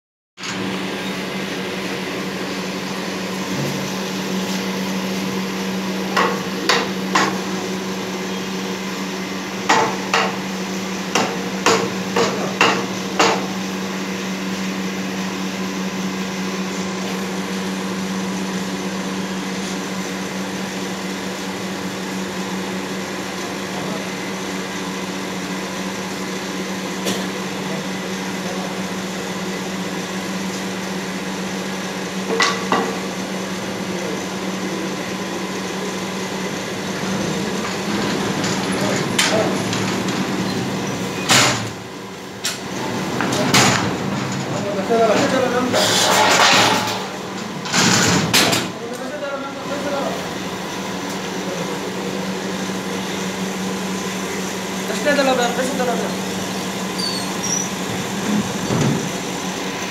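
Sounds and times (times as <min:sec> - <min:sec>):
low machine hum: 0:00.4 - 0:59.9.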